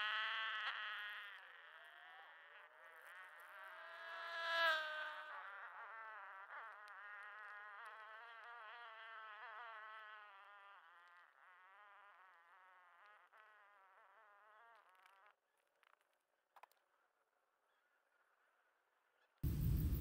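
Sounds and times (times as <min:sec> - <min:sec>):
flying insect buzzing: 0:00.0 - 0:20.0.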